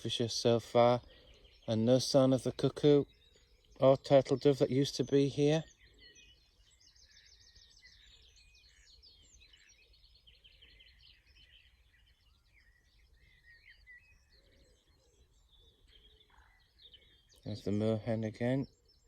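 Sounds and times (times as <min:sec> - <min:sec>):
songbirds twittering: 0:00.0 - 0:19.0.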